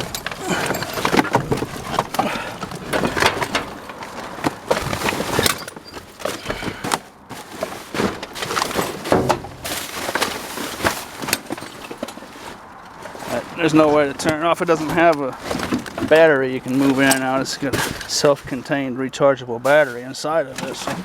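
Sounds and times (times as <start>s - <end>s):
debris clattering and rustling: 0.0s - 18.8s, 19.6s - 21.0s.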